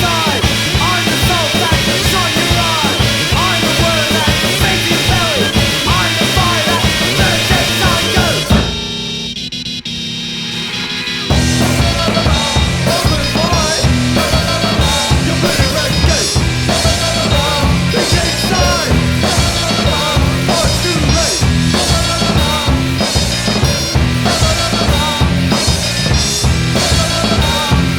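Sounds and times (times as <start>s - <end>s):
upbeat rock music: 0.0s - 27.9s.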